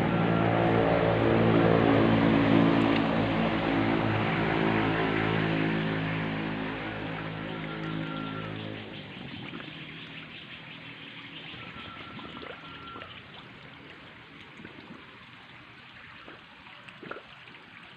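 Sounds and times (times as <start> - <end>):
steady hum: 0.0 - 14.9
water trickling: 0.0 - 17.9.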